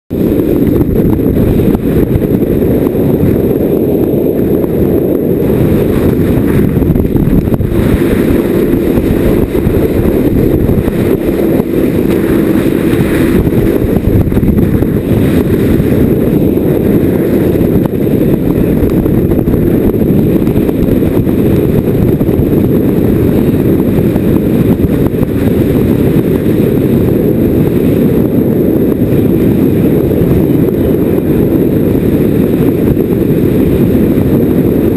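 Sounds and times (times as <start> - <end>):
boat engine drone: 0.1 - 34.9
hull moving through water: 0.1 - 34.9
wind buffeting microphone: 0.1 - 34.9.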